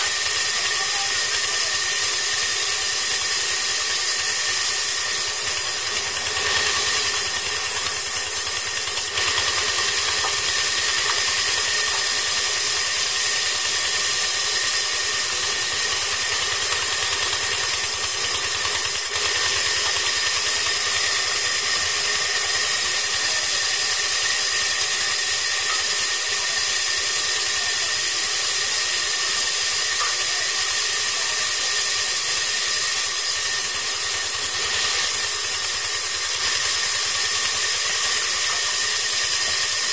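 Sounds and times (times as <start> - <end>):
band saw cutting through log: 0.0 - 39.9.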